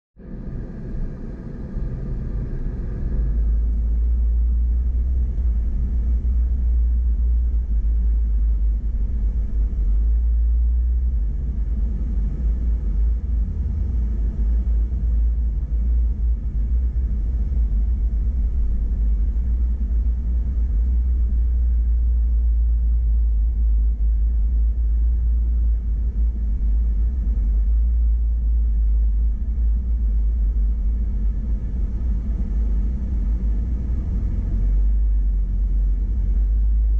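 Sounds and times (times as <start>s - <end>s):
off-road vehicle driving slowly: 2.5s - 36.9s.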